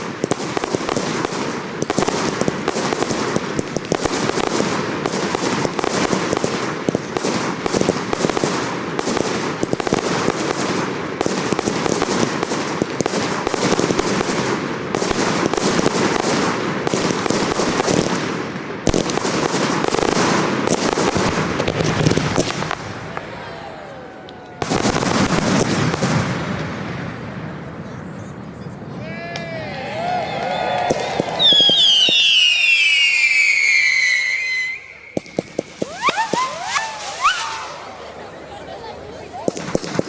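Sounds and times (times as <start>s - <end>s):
sharp firework report: 0.0s - 29.0s, 30.5s - 40.0s
fireworks bangs and crackle: 0.0s - 40.0s.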